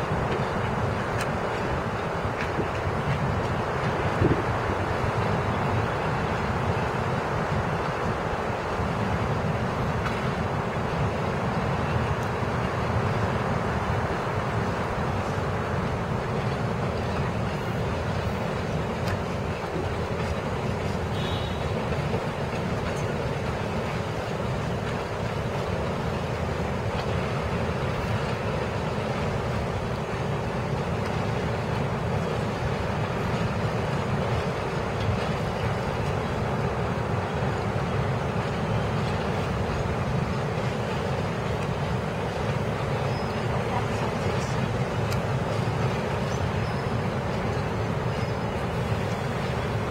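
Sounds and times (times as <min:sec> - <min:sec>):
subway train rumbling past: 0:00.0 - 0:49.9.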